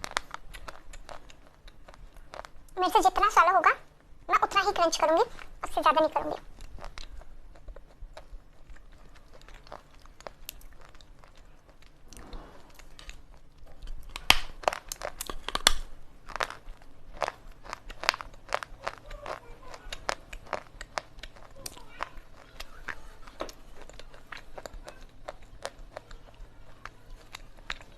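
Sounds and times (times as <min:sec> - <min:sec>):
pencil crunched between teeth: 0:00.0 - 0:02.8, 0:06.4 - 0:26.2
faint crackles: 0:00.0 - 0:27.9.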